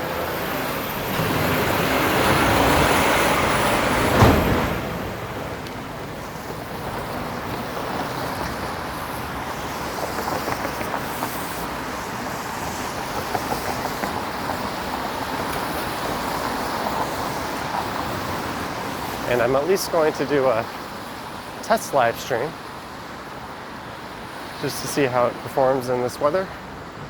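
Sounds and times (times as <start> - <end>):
traffic on a wet road: 0.0 - 27.0.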